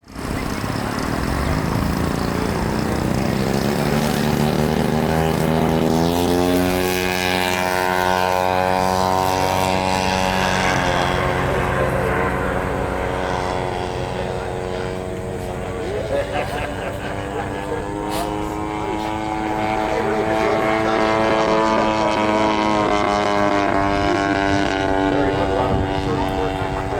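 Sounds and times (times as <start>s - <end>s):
model airplane engine running: 0.0s - 26.9s.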